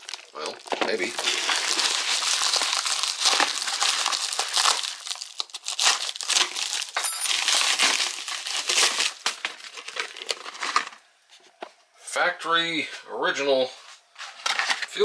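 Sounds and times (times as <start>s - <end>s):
crinkling and rustling: 0.0s - 11.9s, 13.7s - 15.0s.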